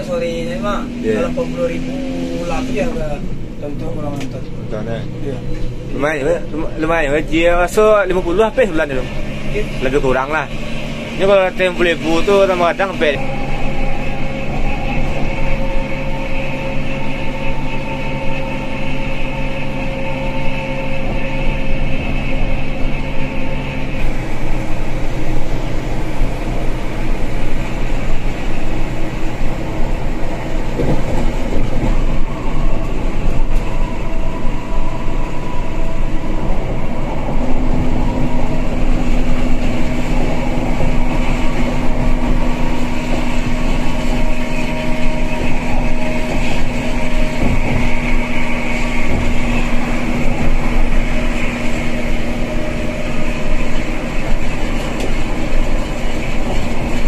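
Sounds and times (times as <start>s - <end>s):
bus cabin engine hum: 0.0s - 57.0s
steady engine tone: 0.0s - 57.0s.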